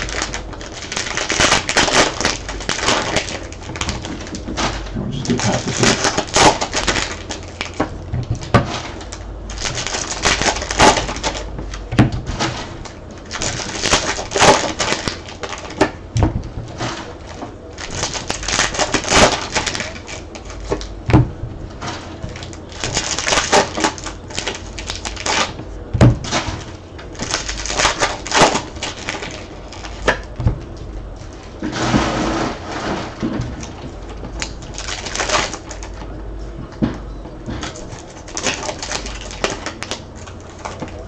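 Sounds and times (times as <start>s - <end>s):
card pack wrappers crinkling: 0.0s - 31.6s, 33.1s - 36.1s, 37.6s - 41.0s.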